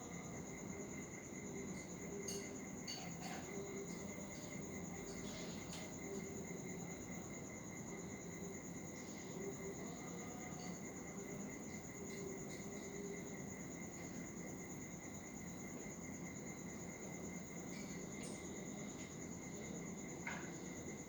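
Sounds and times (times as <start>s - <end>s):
high-pitched insect trill: 0.0s - 21.0s.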